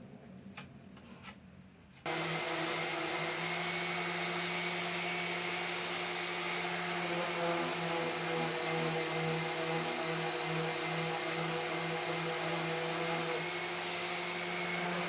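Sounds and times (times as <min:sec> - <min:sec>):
electric motor rushing and humming: 0:02.1 - 0:15.0.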